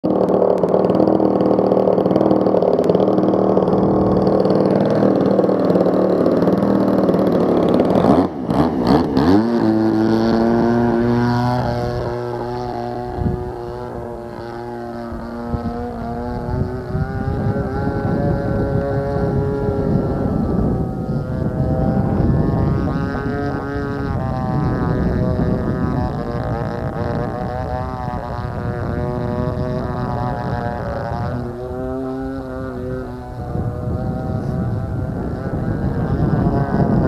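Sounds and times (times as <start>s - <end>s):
model airplane engine running: 0.0s - 37.0s.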